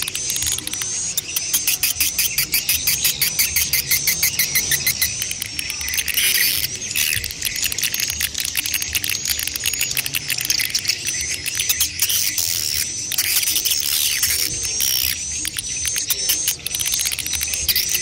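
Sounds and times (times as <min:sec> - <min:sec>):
high bird chirps: 0:00.0 - 0:18.0
swiftlets twittering: 0:00.0 - 0:18.0.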